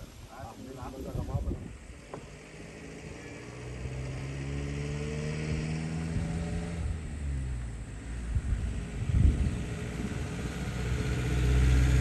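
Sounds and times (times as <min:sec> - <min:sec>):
vehicle engine passing: 0:00.6 - 0:12.0.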